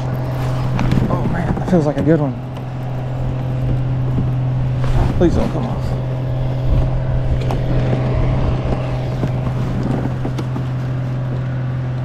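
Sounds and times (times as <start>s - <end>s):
low hum: 0.0s - 12.0s
wind noise on microphone: 0.0s - 12.0s.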